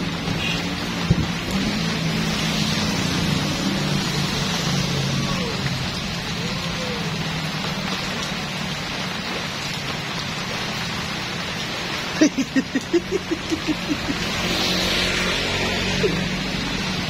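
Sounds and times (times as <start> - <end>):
heavy rain on road: 0.0 - 17.0.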